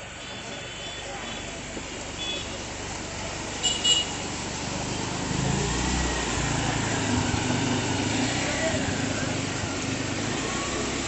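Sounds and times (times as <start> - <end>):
auto-rickshaw engines running: 0.0 - 11.0
water splashing around wheels: 0.0 - 11.0.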